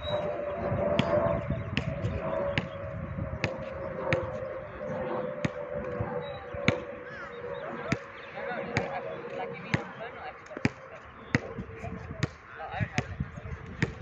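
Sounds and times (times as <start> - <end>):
jet airliner engines droning: 0.0 - 14.0.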